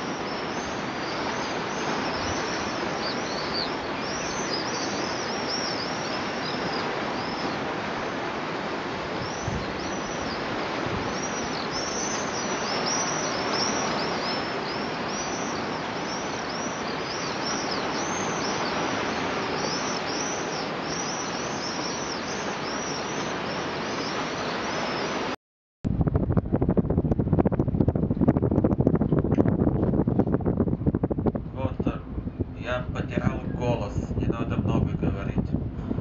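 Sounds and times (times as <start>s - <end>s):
birds chirping: 0.0s - 25.4s, 31.6s - 35.4s.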